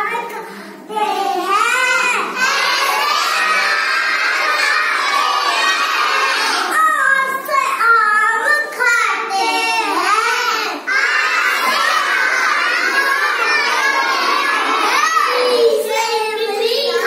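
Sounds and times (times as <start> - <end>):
children chanting together: 1.1 - 7.5, 9.1 - 17.0.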